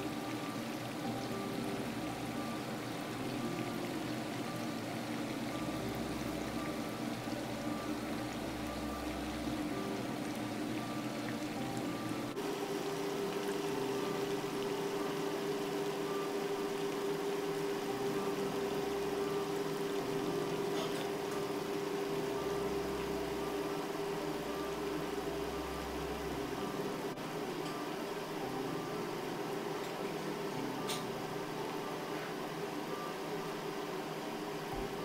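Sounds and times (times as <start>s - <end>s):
deep-frying sizzle and bubbling: 0.0s - 35.0s.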